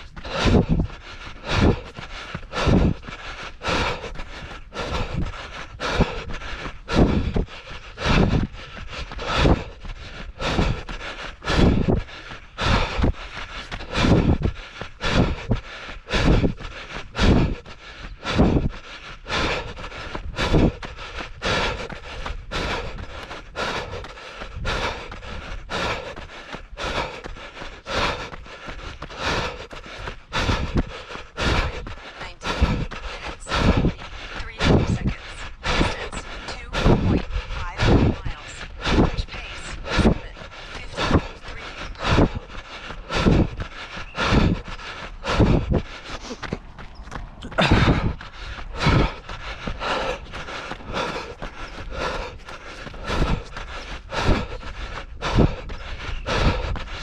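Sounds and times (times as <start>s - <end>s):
runner breathing heavily: 0.0s - 57.0s.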